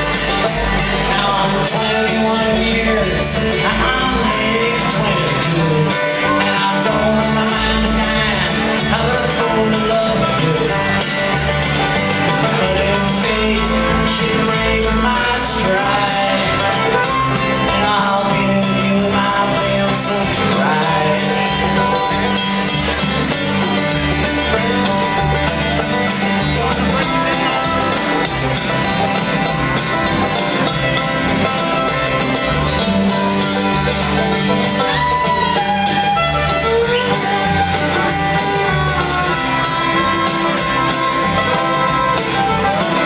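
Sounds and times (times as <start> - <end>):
bluegrass band playing: 0.0 - 43.0.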